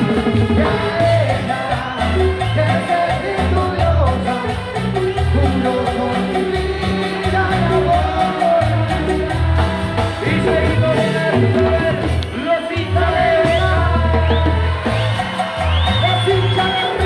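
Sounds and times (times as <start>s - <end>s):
live band music with singing: 0.0s - 17.0s.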